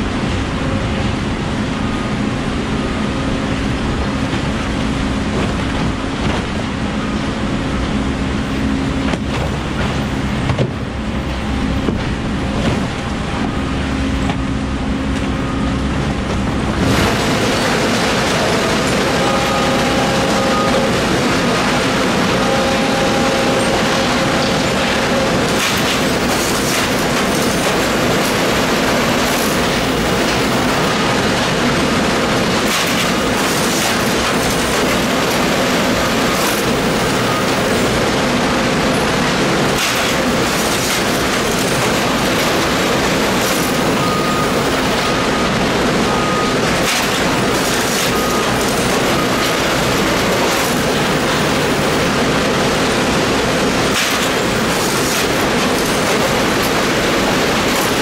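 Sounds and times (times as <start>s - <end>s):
hydraulic baler drone: 0.0s - 58.0s.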